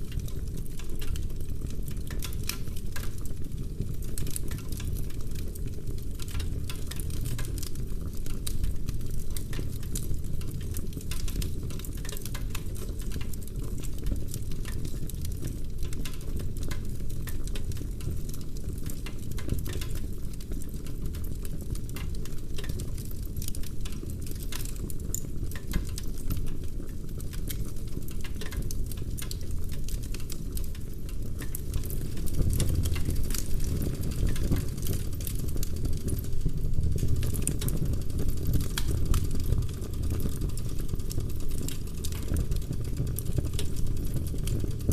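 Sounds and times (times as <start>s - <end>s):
logs crackling and popping: 0.0s - 44.9s
low rumble of flame: 0.0s - 44.9s.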